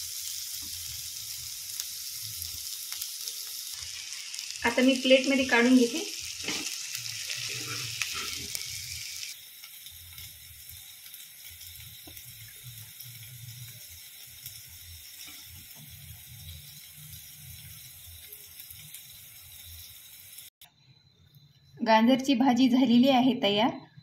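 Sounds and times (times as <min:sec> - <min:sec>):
vegetables sizzling in a pan: 0:00.0 - 0:20.6.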